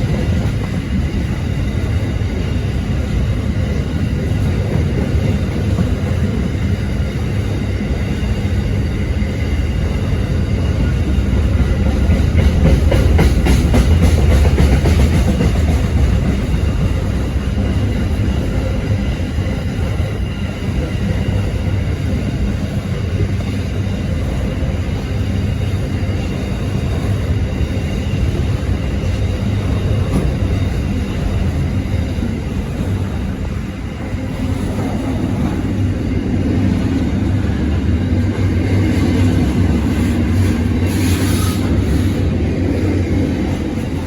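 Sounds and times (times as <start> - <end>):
freight train passing: 0.0 - 44.0.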